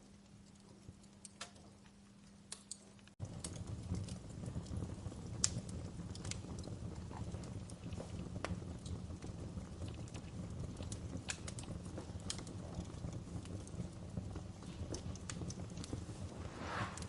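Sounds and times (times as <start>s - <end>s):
low rumble of flames: 0.0s - 17.0s
campfire crackling and popping: 0.2s - 17.0s.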